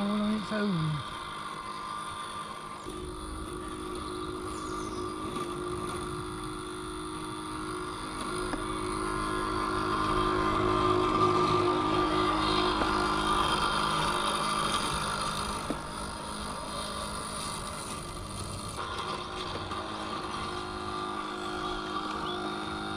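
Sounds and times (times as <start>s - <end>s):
robot lawn mower humming: 0.0s - 22.9s.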